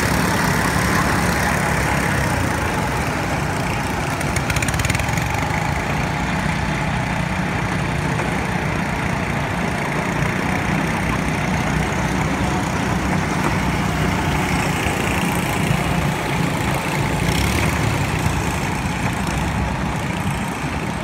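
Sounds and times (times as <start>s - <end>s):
go-kart engines droning: 0.0s - 21.0s.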